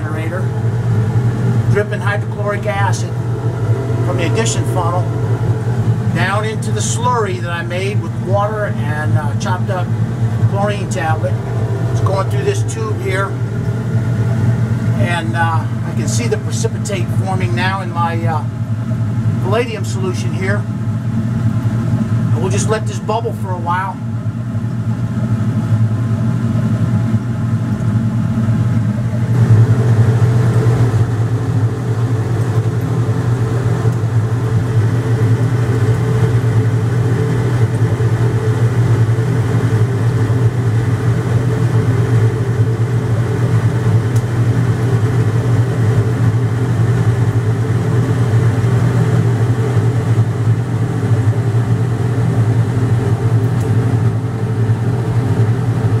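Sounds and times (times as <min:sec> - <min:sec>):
low mechanical drone: 0:00.0 - 0:56.0.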